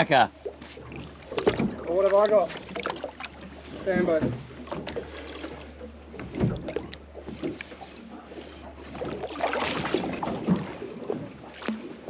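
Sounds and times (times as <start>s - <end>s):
boat engine idling: 0.0s - 12.0s
water splashing: 0.0s - 12.0s.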